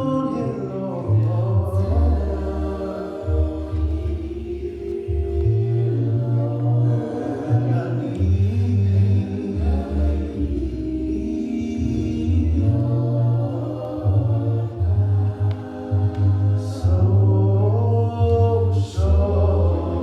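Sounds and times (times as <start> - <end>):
congregation singing a hymn: 0.0 - 20.0
held low bass notes: 0.0 - 20.0.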